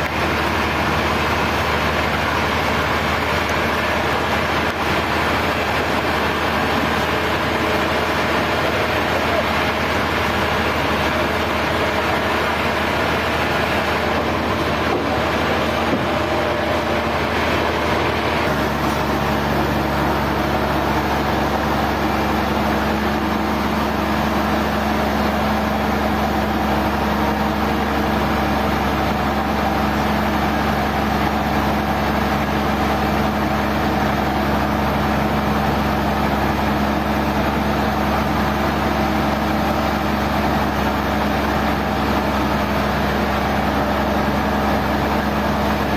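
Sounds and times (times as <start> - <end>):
sawmill machinery hum: 0.0 - 45.9.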